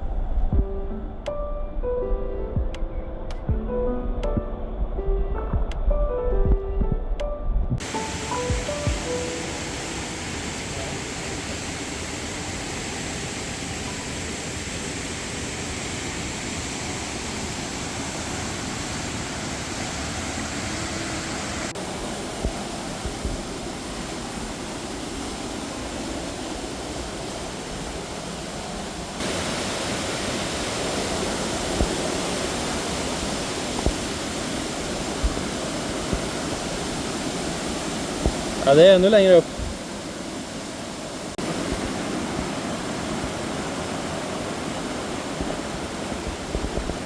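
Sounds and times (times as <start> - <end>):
waterfall rushing: 7.8 - 47.0.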